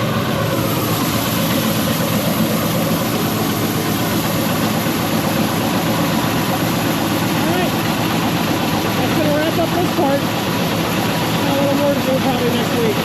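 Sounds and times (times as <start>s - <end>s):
heavy farm machine engine running: 0.0s - 13.0s.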